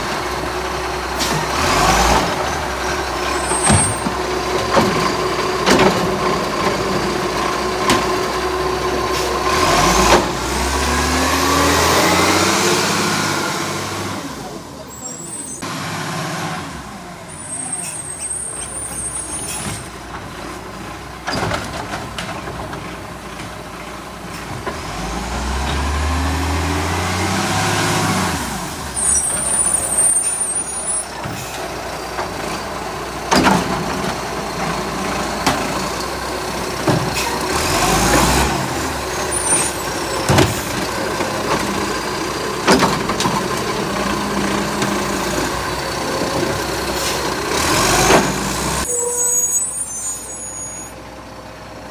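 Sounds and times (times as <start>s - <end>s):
diesel engine revving: 0.0s - 51.9s.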